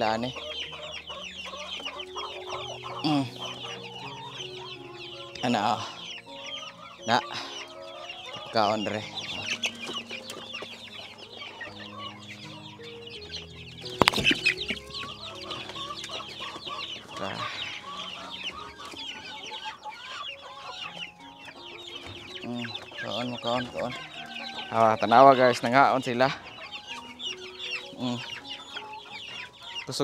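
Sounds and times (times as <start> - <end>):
chicks peeping and clucking: 0.0 - 30.0.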